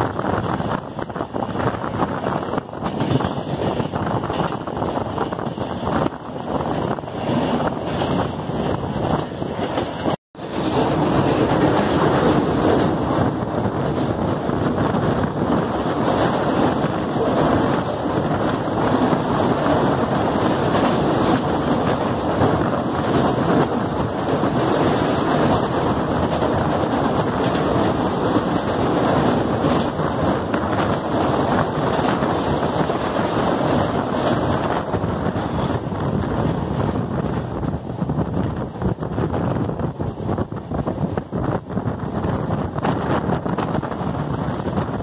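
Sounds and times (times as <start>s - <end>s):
train wheels rumbling on bridge: 0.0s - 45.0s
wind buffeting microphone: 0.0s - 45.0s.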